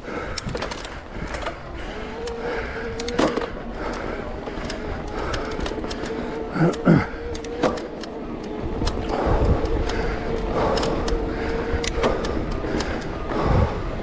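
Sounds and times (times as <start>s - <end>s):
bike frame and chain rattling: 0.0s - 14.0s
wind on microphone: 0.0s - 14.0s.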